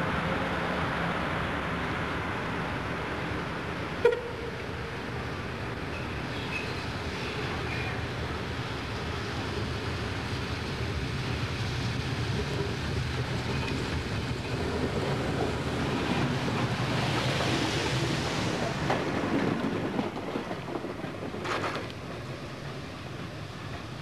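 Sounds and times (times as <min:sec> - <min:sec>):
steam locomotive rumbling past: 0:00.0 - 0:24.0.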